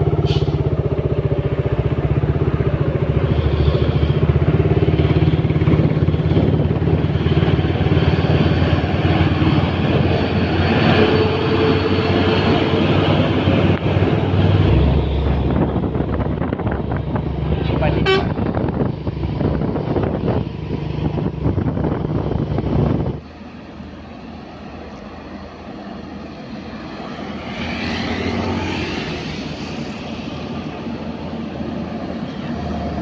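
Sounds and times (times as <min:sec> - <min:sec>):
truck engine running: 0:00.0 - 0:27.6.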